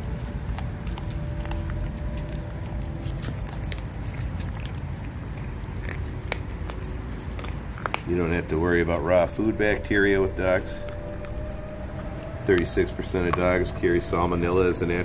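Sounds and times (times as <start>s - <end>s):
puppies chewing raw meat and bone: 0.0s - 15.0s
steady low rumble: 0.0s - 15.0s.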